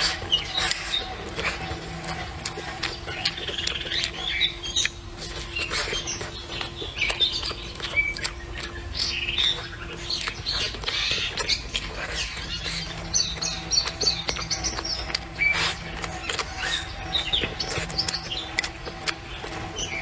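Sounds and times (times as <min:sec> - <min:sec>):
birds chirping: 0:00.0 - 0:20.0
wet chewing and lip smacks: 0:00.0 - 0:20.0.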